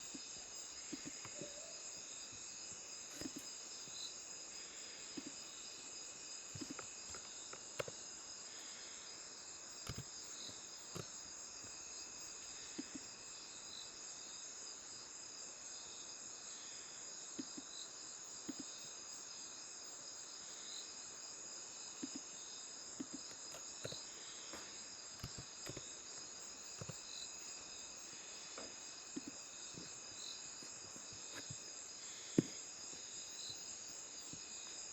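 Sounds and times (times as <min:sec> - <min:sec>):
crickets chirring: 0:00.0 - 0:34.9.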